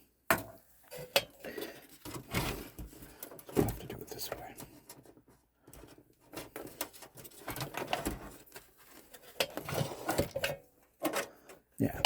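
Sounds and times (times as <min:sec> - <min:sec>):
rustling and scraping of cables: 0:00.8 - 0:12.0.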